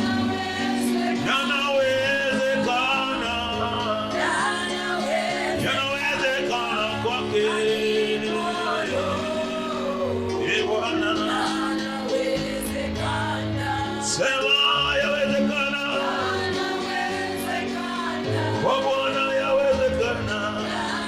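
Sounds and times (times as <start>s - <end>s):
gospel singing: 0.0s - 21.0s
instrumental backing: 0.0s - 21.0s.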